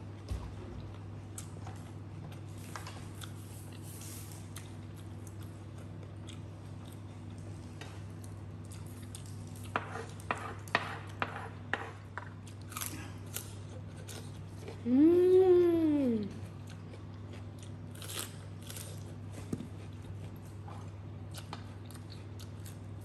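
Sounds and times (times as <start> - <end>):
steady low hum: 0.0 - 23.0
crunching and chewing cucumber: 0.8 - 10.3, 11.6 - 14.9, 16.3 - 23.0.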